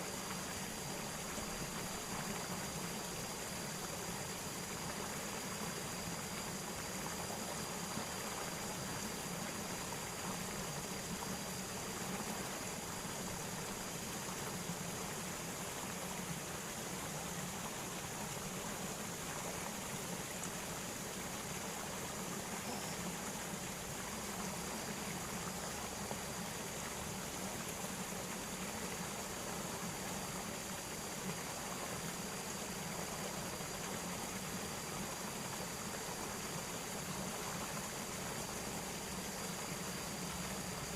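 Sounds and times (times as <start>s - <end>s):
faint high-pitched whine: 0.0s - 40.9s
flowing water rushing: 0.0s - 40.9s.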